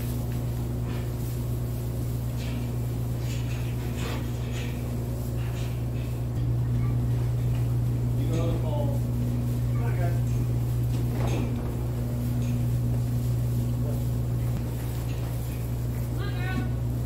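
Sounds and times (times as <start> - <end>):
faint knocks and rustles: 0.0 - 16.8
low mechanical hum: 0.0 - 17.0.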